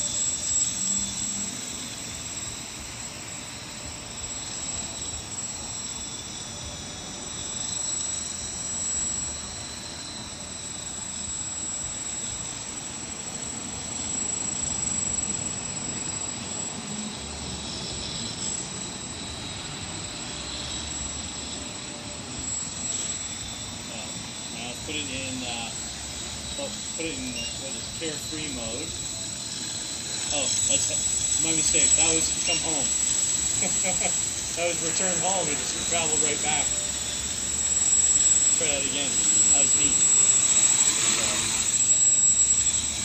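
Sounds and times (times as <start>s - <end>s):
drone propellers whining: 0.0s - 43.0s.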